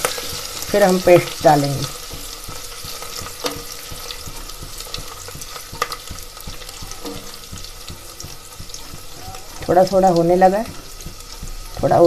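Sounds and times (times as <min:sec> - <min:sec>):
food sizzling in hot oil: 0:00.0 - 0:12.0
wooden spatula scraping pot: 0:00.0 - 0:12.0.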